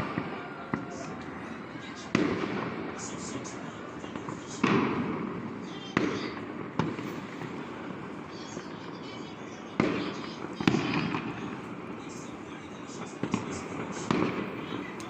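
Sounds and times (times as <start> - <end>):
distant fireworks bursts: 0.0 - 15.0
fireworks bangs: 0.0 - 15.0
fireworks crackling: 0.0 - 15.0.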